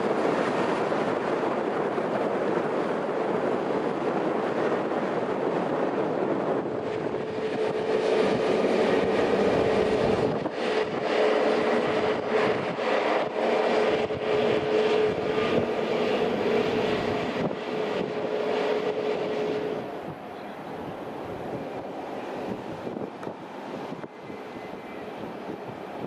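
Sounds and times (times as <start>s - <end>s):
jet engines whining: 0.0s - 26.0s
wind buffeting microphone: 0.0s - 26.0s.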